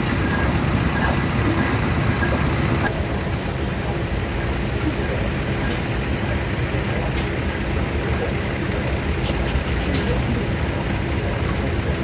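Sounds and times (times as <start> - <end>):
steam engine rumbling: 0.0 - 12.0.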